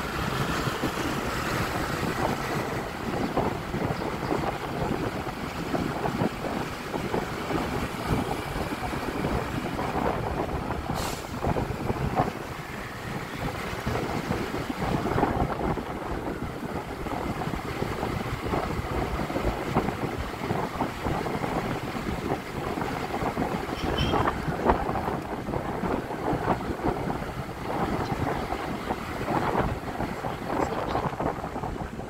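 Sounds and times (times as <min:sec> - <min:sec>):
road noise: 0:00.0 - 0:32.0
wind buffeting microphone: 0:00.0 - 0:32.0.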